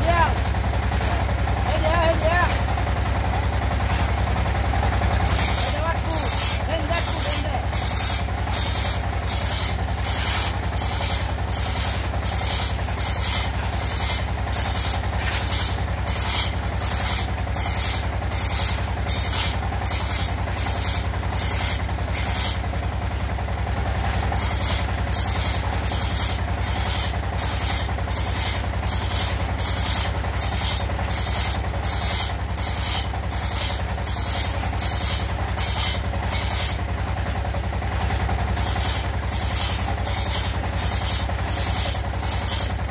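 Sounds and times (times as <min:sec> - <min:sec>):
hand saw rasping through wood: 0:00.9 - 0:02.7, 0:05.2 - 0:23.3, 0:23.9 - 0:37.3, 0:37.9 - 0:42.8.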